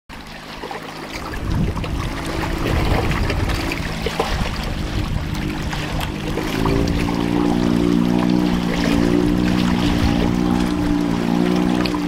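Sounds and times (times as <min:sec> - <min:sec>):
outboard motor droning: 0:00.1 - 0:12.0
water slapping shore: 0:00.1 - 0:12.0.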